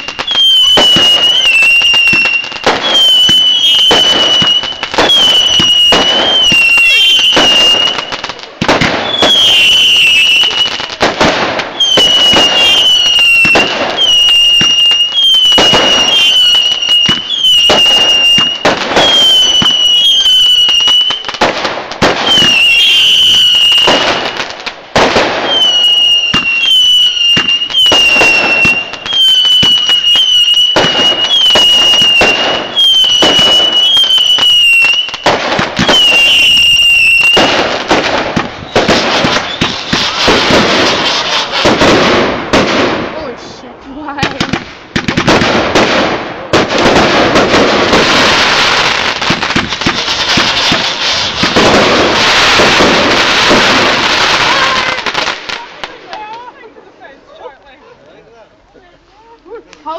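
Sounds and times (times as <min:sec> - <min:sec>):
whistling firework shots: 0:00.0 - 0:43.1, 0:44.2 - 0:56.4
firework bangs and crackle: 0:00.0 - 0:57.6, 0:59.0 - 0:59.9.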